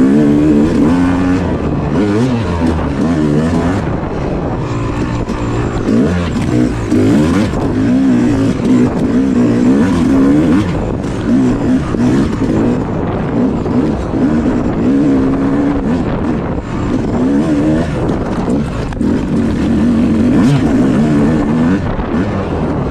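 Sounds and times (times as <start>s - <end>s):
two-stroke dirt bike engine: 0.0s - 22.9s.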